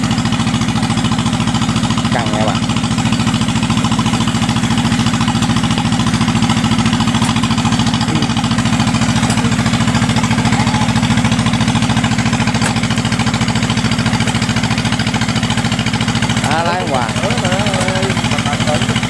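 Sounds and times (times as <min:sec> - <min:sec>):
diesel engine chugging under load: 0:00.0 - 0:19.0.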